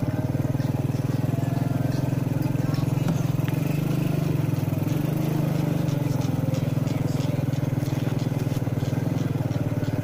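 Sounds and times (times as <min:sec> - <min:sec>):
small motorcycle engine running: 0:00.0 - 0:10.0.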